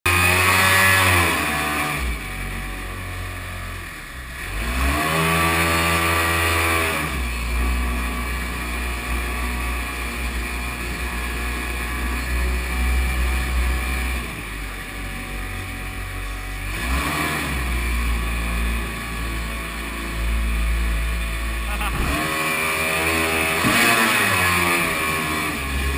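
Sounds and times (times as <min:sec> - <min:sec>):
jet boat engine: 0:00.2 - 0:25.9.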